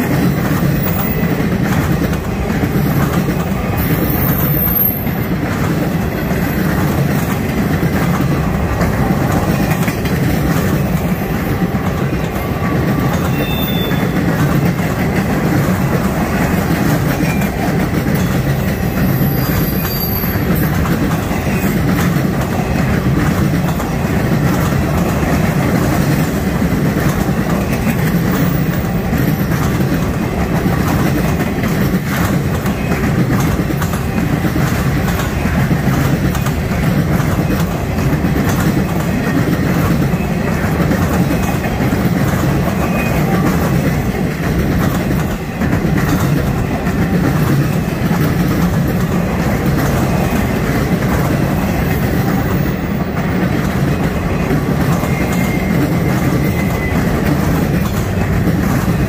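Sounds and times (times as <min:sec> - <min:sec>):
clattering clicks of wheels: 0:00.0 - 0:59.0
freight train wheels rumbling: 0:00.0 - 0:59.0.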